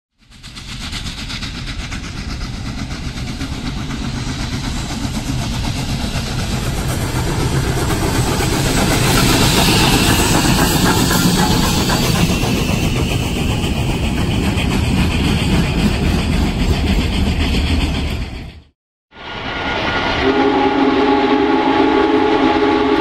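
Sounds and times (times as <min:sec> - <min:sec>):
steam locomotive exhaust beats: 0:00.1 - 0:23.0.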